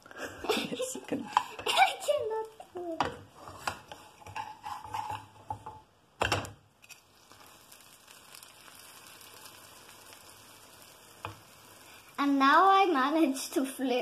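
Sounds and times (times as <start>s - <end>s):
sandwich sizzling in pan: 0.1s - 5.9s, 6.7s - 14.0s.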